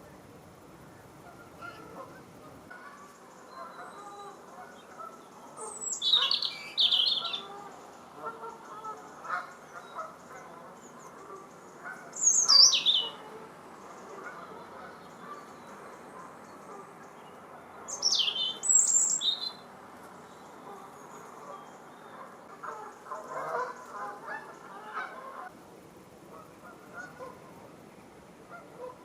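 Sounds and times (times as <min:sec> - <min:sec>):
high falling bird calls: 0:00.0 - 0:25.5
lower bird calls: 0:00.0 - 0:25.5.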